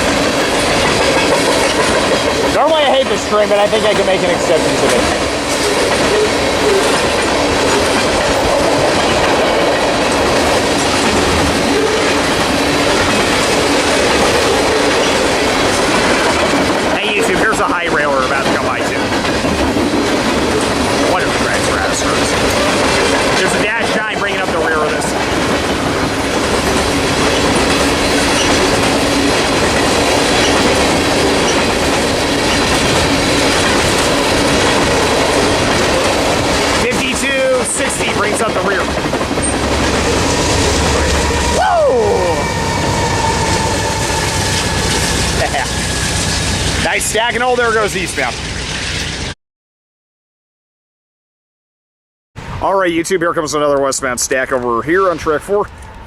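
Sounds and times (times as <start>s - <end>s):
train wheels rumbling on rails: 0.0s - 49.4s, 52.4s - 56.0s.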